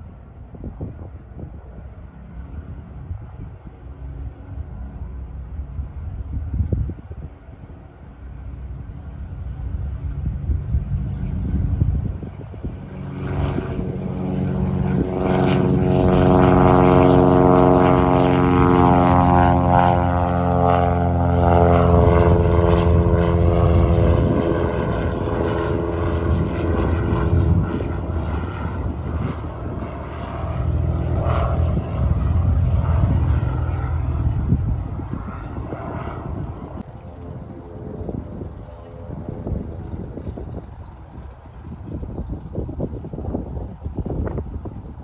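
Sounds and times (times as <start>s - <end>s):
propeller plane engine at takeoff: 0.0s - 45.0s.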